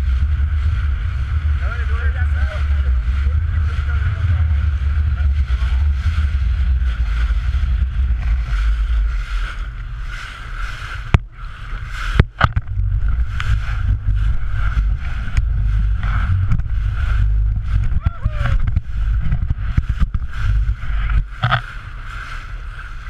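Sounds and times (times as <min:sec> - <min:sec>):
outboard motor drone: 0:00.0 - 0:23.0
water rushing along hull: 0:00.0 - 0:23.0
wind buffeting microphone: 0:00.0 - 0:23.0.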